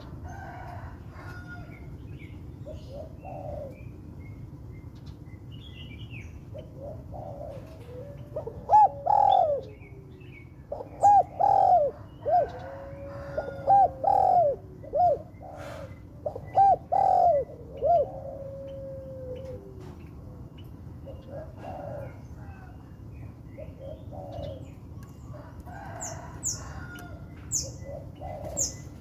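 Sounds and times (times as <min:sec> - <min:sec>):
dove cooing: 0:02.6 - 0:04.0, 0:06.4 - 0:22.9, 0:23.5 - 0:29.0.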